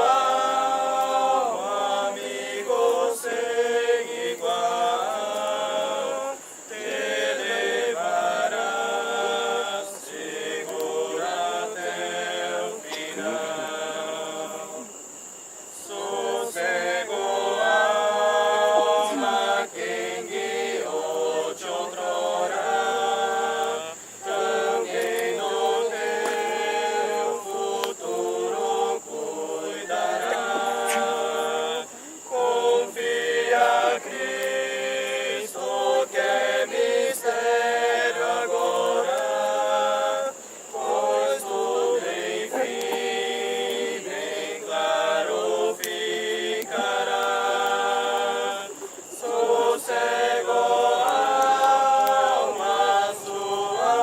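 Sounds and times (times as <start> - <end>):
group of voices singing: 0.0 - 54.0.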